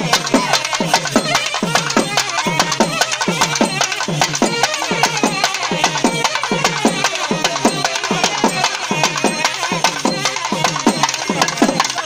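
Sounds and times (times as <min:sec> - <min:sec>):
drums struck fast and hard: 0:00.0 - 0:12.0
wavering melody: 0:00.0 - 0:12.0.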